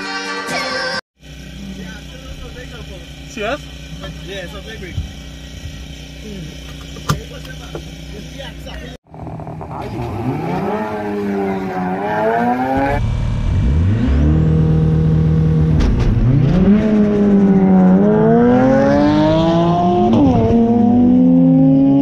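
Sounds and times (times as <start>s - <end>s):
car engine revving: 1.2s - 22.0s.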